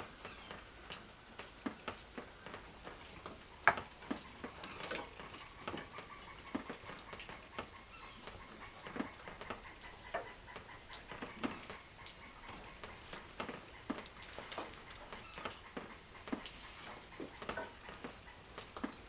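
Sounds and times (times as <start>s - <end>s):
light ticks and taps: 0.2s - 19.0s.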